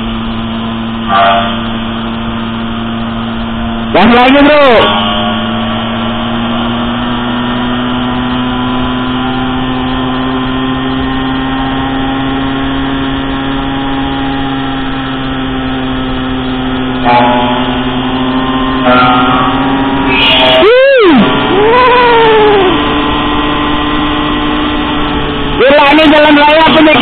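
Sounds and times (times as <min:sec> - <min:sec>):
motorbike engine cruising: 0:00.0 - 0:27.0
wind and road noise: 0:00.0 - 0:27.0.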